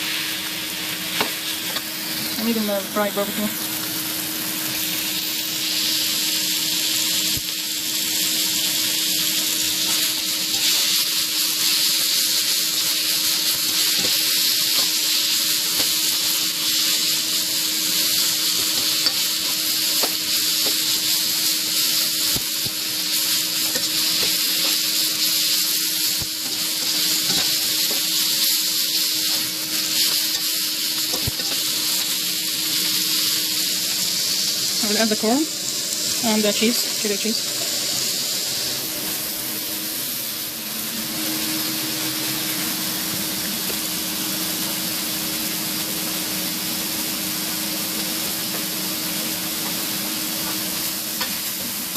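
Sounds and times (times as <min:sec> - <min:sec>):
chicken sizzling in a pan: 0:00.0 - 0:51.9.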